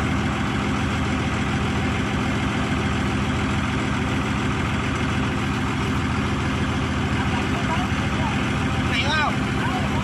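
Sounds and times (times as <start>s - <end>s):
boat diesel engine droning: 0.0s - 10.0s.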